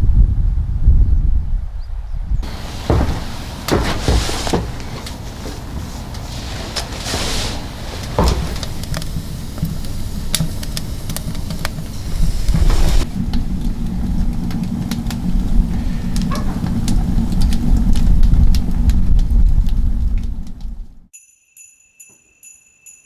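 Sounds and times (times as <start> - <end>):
wind buffeting microphone: 0.0 - 21.1.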